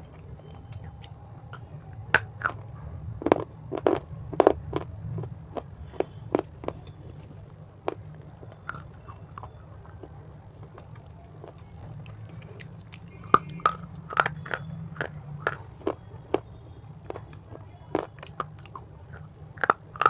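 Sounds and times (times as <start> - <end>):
chips crunching: 0.0 - 20.0.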